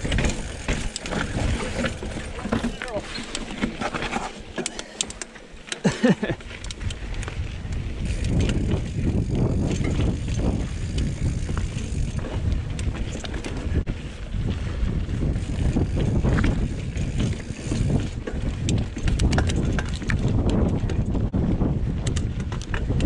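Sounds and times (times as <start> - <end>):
wind on microphone: 0.0 - 2.7, 6.2 - 23.0
bike clicks and rattles: 0.0 - 23.0
bike tyres rumbling on rock: 0.0 - 23.0.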